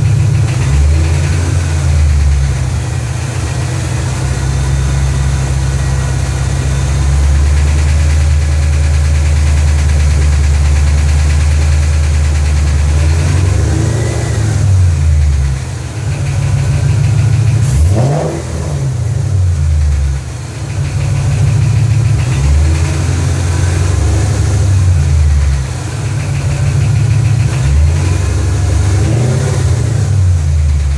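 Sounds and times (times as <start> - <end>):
car engine idling and revving: 0.0 - 30.9
engine ticking: 0.0 - 30.9.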